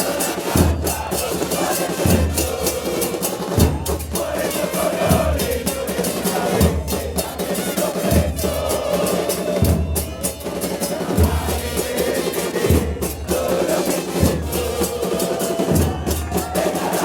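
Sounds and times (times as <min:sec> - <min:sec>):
fast snare drum strokes: 0:00.0 - 0:17.0.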